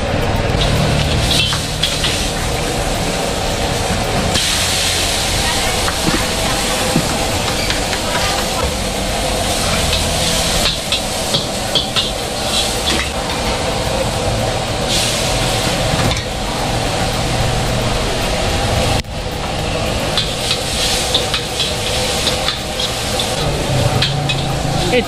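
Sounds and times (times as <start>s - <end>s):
noodles sizzling in a wok: 0.0s - 25.0s.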